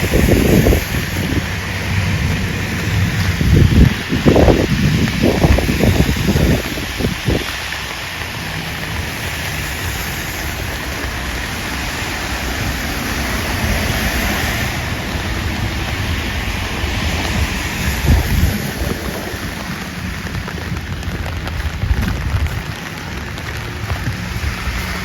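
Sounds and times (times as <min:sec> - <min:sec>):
rain hissing: 0:00.0 - 0:25.0
tyres on wet street: 0:00.0 - 0:25.0
wind bumps on microphone: 0:00.0 - 0:25.0.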